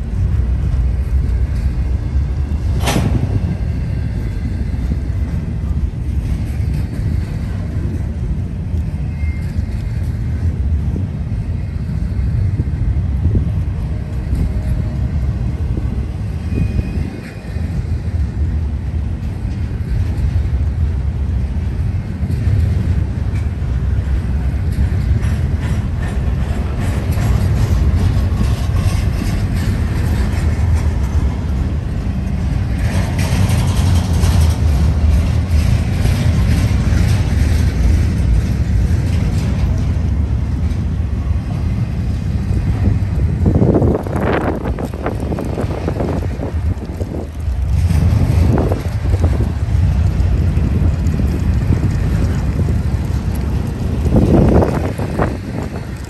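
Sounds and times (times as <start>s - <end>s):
freight train wheels rumbling: 0.0s - 56.0s
train clank: 0.0s - 56.0s.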